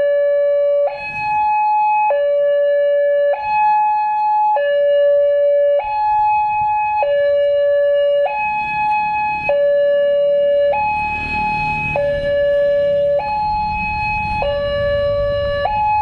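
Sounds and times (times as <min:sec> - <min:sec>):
level-crossing two-tone alarm: 0:00.0 - 0:16.0.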